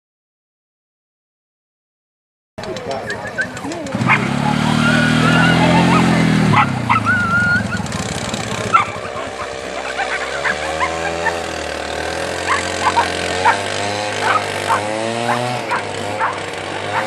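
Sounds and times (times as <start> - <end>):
dogs barking and whining: 2.6 - 17.0
quad bike engine running: 2.6 - 17.0.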